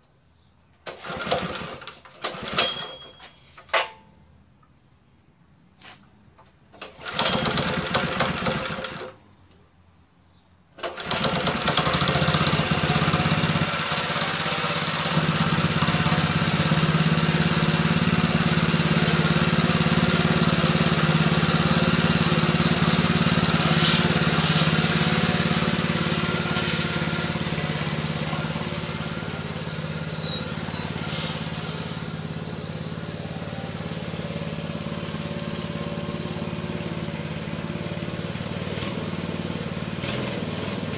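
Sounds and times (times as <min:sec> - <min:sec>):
small engine pull-started: 0:00.8 - 0:03.9, 0:06.7 - 0:09.2, 0:10.8 - 0:40.9.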